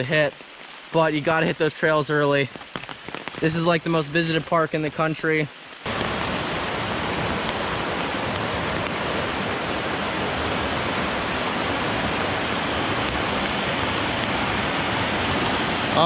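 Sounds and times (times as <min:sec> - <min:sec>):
creek rushing over rocks: 0:01.0 - 0:16.0.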